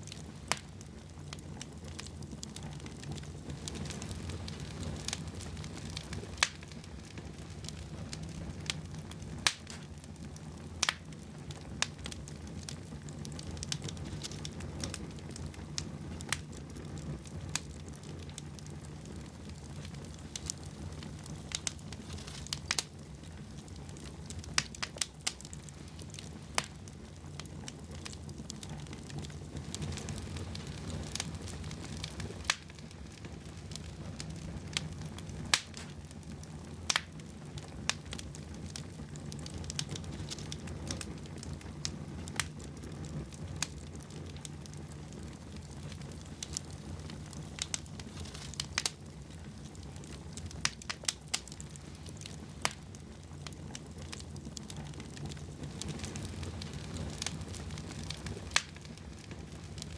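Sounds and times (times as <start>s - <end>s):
fire crackles and pops: 0.0s - 59.9s
rush of flames: 0.0s - 59.9s.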